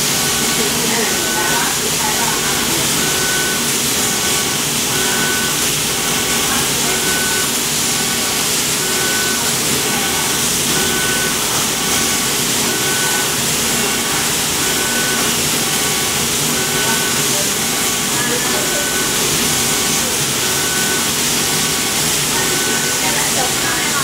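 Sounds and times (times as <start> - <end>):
laser cutter hissing: 0.0 - 24.0.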